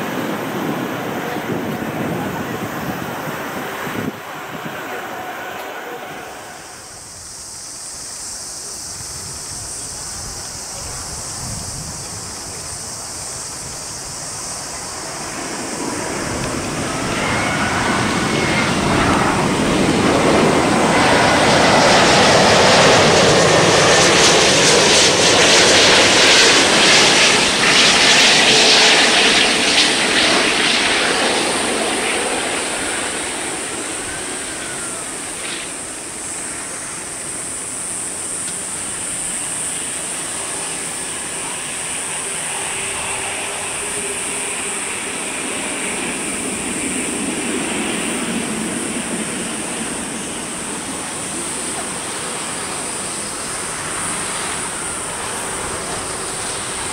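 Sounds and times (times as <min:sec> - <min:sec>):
jet aircraft passing low: 0:00.0 - 0:56.9
jet engine whine: 0:00.0 - 0:56.9.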